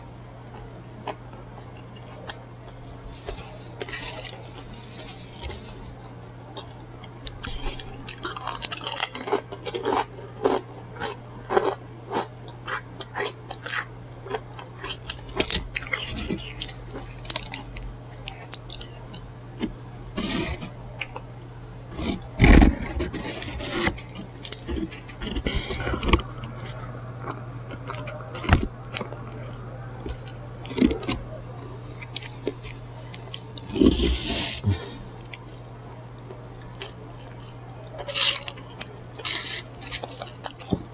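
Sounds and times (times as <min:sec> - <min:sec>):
crunching and chewing food: 0:00.0 - 0:40.9
low steady hum: 0:00.0 - 0:40.9
scraping and crackling: 0:00.5 - 0:40.9.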